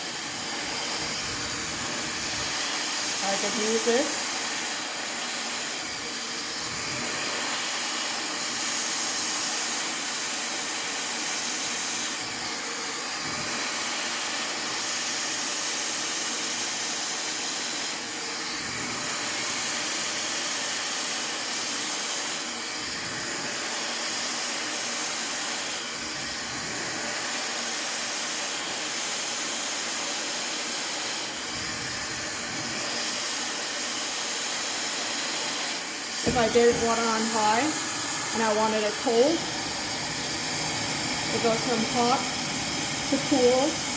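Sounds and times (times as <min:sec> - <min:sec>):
hair dryer blowing: 0:00.0 - 0:43.9.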